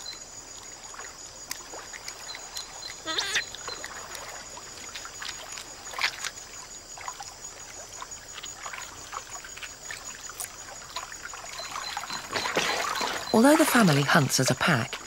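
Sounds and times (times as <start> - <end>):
water splashes and drips: 0.0 - 15.0.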